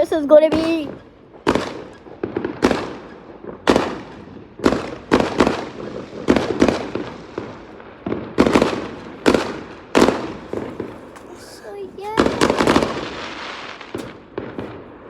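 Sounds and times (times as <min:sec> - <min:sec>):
fireworks banging: 0:00.0 - 0:15.0.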